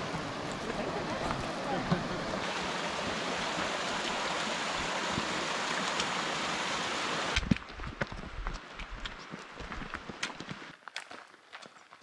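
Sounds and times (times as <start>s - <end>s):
mountain stream rushing: 0.0s - 10.8s.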